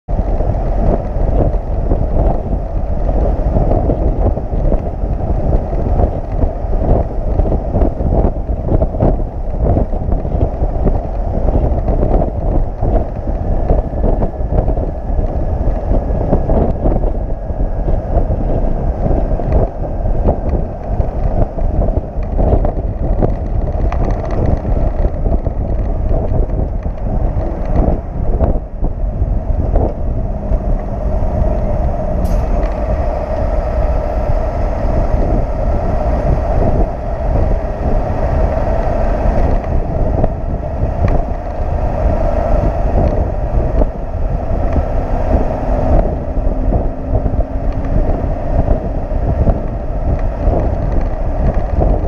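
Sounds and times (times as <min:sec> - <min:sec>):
truck road and drivetrain rumble: 0:00.0 - 0:52.0
wind buffeting the microphone: 0:00.0 - 0:52.0.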